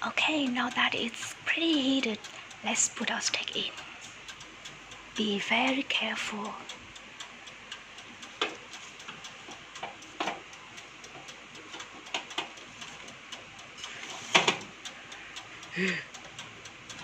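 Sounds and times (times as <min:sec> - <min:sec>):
oven timer ticking: 0:00.0 - 0:17.0.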